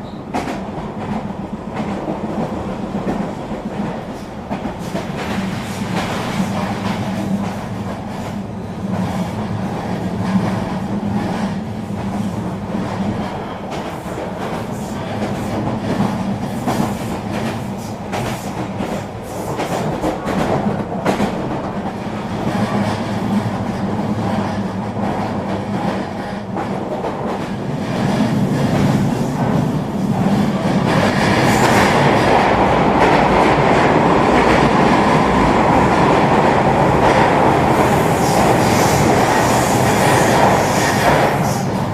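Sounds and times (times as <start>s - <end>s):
electric train rolling: 0.0s - 41.9s.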